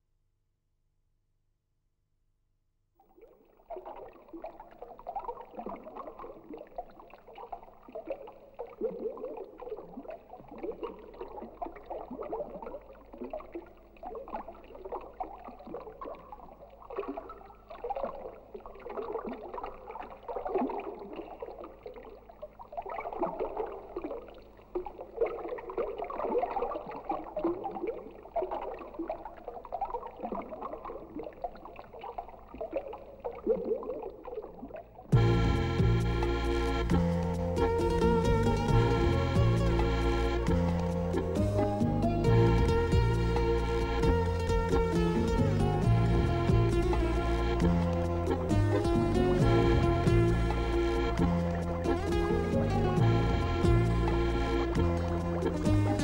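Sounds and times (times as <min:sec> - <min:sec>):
water gurgling and swirling: 0:03.0 - 0:56.0.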